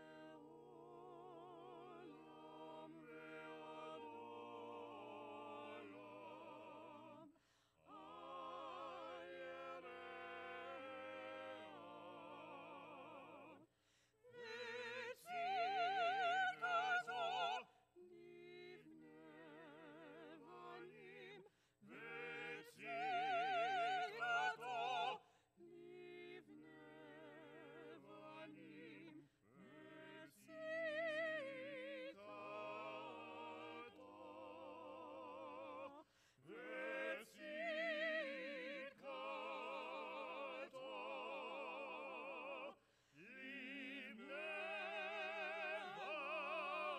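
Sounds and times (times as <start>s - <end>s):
small choir singing: 0.0s - 46.9s.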